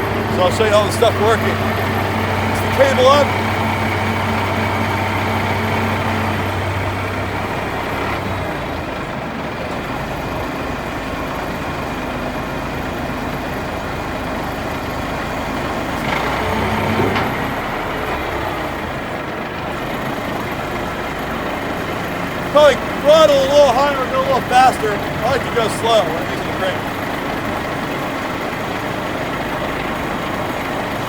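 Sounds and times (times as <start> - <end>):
diesel engine running at low throttle: 0.0 - 31.0.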